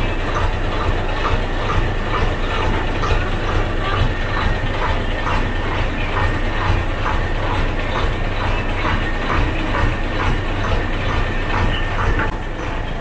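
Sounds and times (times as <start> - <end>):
boat engine rumbling and clattering: 0.0 - 13.0.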